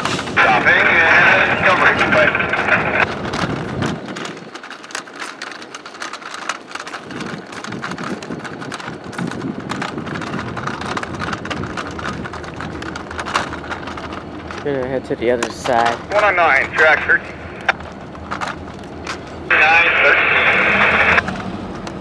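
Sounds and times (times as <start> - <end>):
footsteps crunching on gravel: 0.9 - 21.1.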